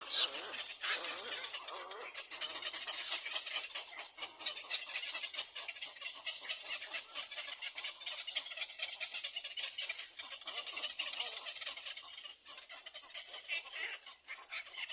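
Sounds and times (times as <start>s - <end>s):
nestling birds chirping: 0.0s - 14.9s.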